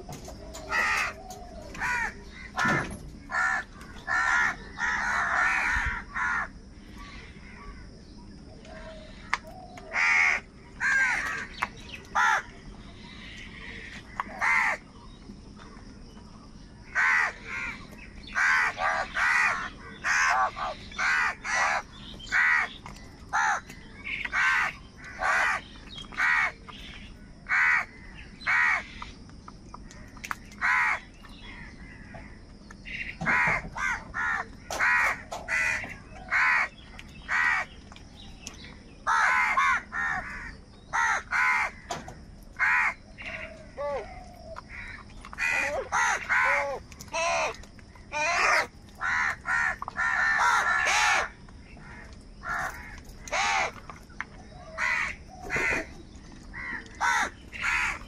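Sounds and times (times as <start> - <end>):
crows cawing: 0.4 - 8.0, 8.7 - 12.5, 13.2 - 14.8, 16.9 - 29.1, 30.0 - 37.8, 39.0 - 53.8, 54.6 - 55.9, 56.5 - 58.0.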